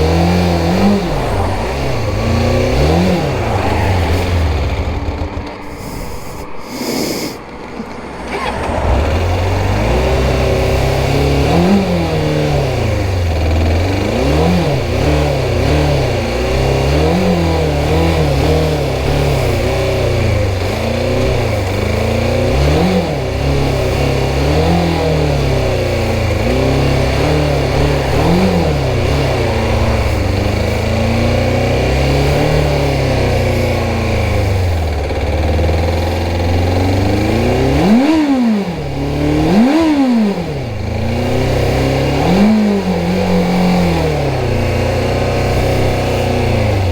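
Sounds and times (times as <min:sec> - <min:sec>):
motorcycle engine revving and spluttering: 0:00.0 - 0:05.6, 0:07.7 - 0:46.9.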